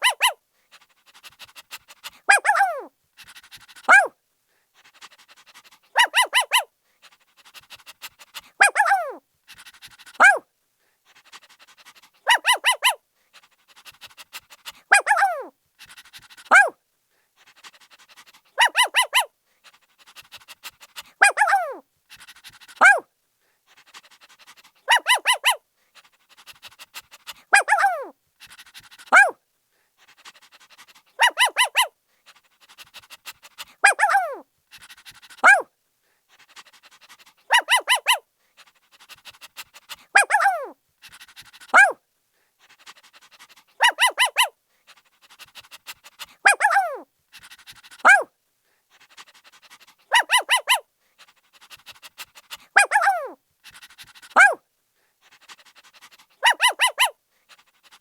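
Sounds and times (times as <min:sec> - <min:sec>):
puppy yapping and yelping: 0:00.0 - 0:04.2, 0:04.9 - 0:10.4, 0:11.2 - 0:16.8, 0:17.5 - 0:23.1, 0:23.8 - 0:29.4, 0:30.0 - 0:35.7, 0:36.4 - 0:42.0, 0:42.8 - 0:48.3, 0:48.9 - 0:54.6, 0:55.2 - 0:58.0
puppy panting: 0:00.0 - 0:10.4, 0:11.0 - 0:58.0.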